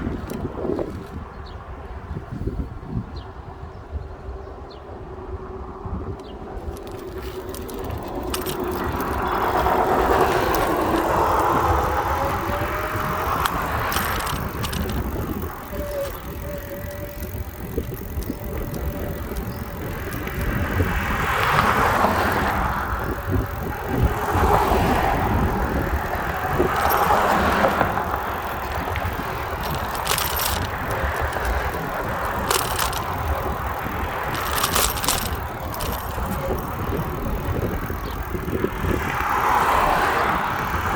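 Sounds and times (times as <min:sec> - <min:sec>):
sharp bicycle clicks: 0:00.0 - 0:01.3, 0:06.2 - 0:40.9
road and wind noise: 0:00.0 - 0:40.9.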